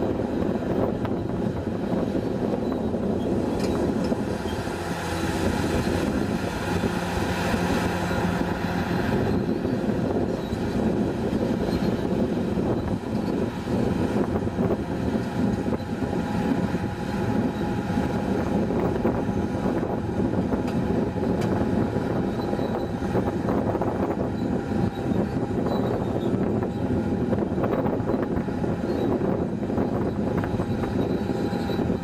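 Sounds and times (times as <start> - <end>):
hydraulic excavator running: 0.1 - 32.0.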